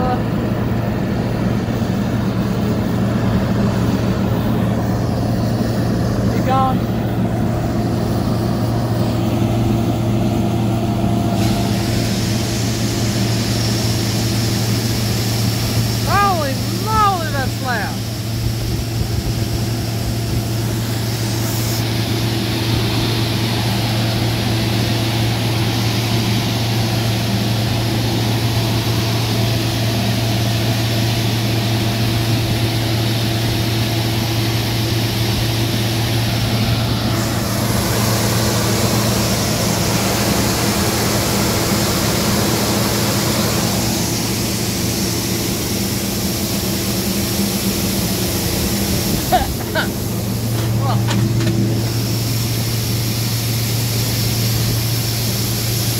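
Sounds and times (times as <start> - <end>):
farm machinery drone: 0.0 - 55.9
grain pouring from auger: 2.1 - 55.9
steady hiss: 6.9 - 55.9.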